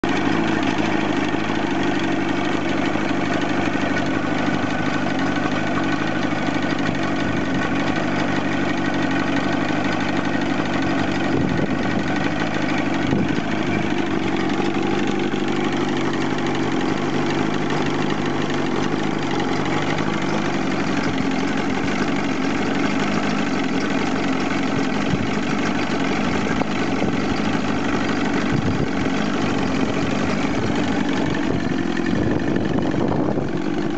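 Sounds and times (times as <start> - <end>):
outboard motor running steadily: 0.0 - 33.9.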